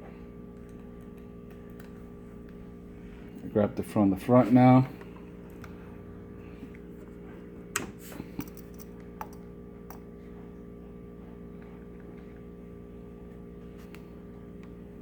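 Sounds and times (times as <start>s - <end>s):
power supply electrical hum: 0.0s - 15.0s.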